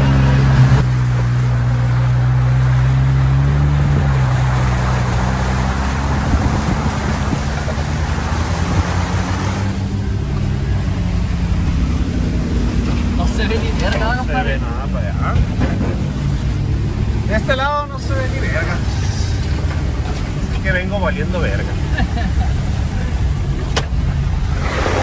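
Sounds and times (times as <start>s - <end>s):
mud and water hitting vehicle: 0.0s - 25.0s
vehicle engine hum: 0.0s - 25.0s.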